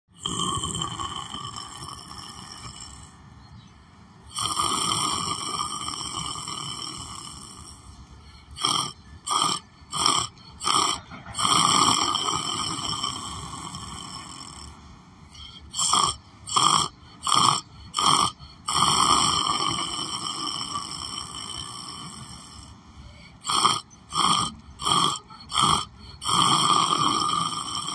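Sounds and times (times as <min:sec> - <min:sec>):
man snoring: 0:00.1 - 0:03.2, 0:04.2 - 0:27.9.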